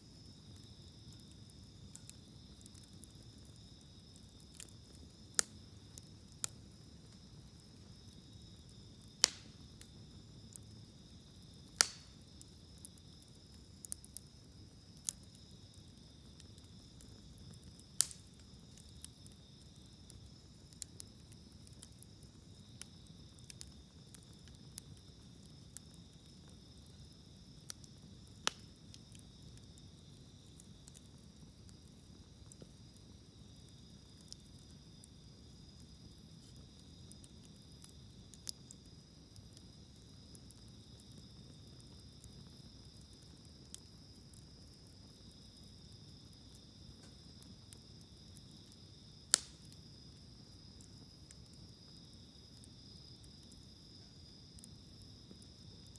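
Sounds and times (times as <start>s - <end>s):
insects chirring: 0.0s - 55.9s
wood fire crackling and popping: 0.0s - 55.9s.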